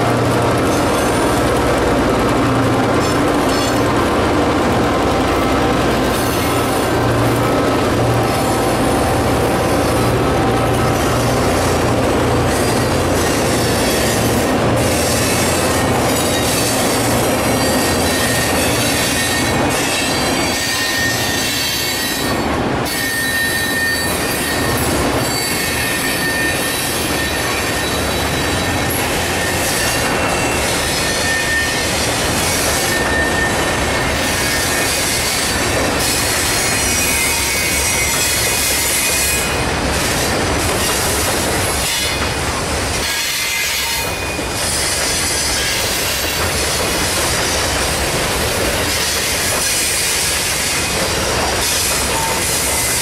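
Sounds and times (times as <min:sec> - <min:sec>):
freight train wheels rumbling: 0:00.0 - 0:53.0.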